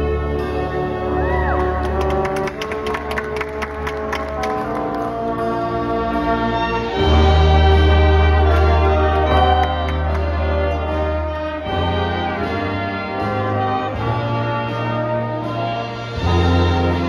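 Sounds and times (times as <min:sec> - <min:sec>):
brass chords: 0:00.0 - 0:17.0.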